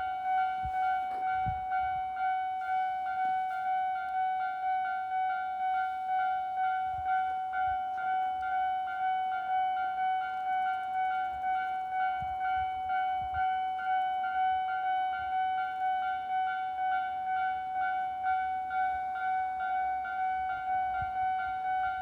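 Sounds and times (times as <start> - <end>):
level crossing alarm bell ringing: 0.0 - 22.0.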